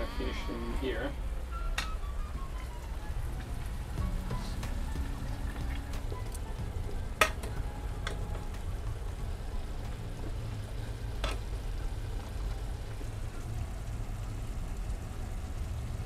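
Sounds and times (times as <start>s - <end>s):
pasta sizzling in a skillet: 2.8s - 16.0s.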